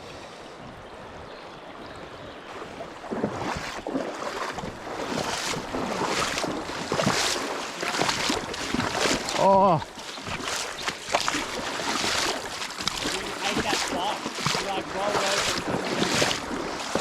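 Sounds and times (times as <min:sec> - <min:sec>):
river water running: 0:00.0 - 0:17.0
water splashing: 0:02.5 - 0:17.0.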